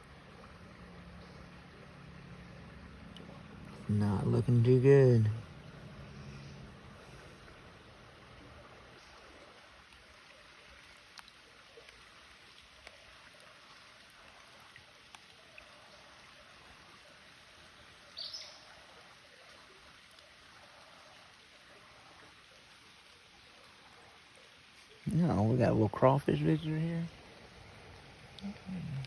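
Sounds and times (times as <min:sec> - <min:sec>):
creek water trickling: 0:00.0 - 0:29.0.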